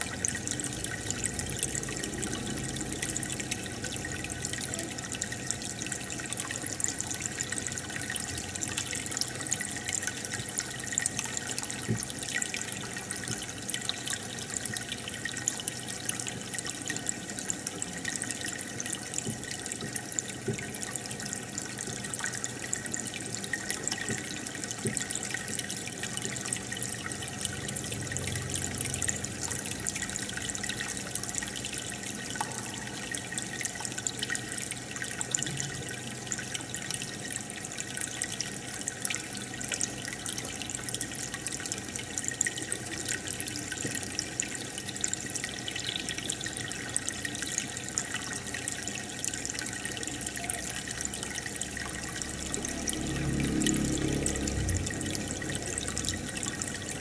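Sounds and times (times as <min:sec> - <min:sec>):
water bubbling and trickling: 0:00.0 - 0:57.0.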